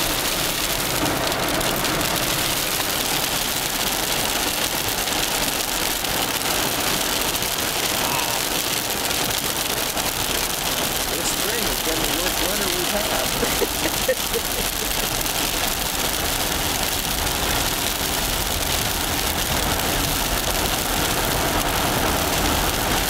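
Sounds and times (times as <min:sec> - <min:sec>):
hail clattering: 0:00.0 - 0:23.0.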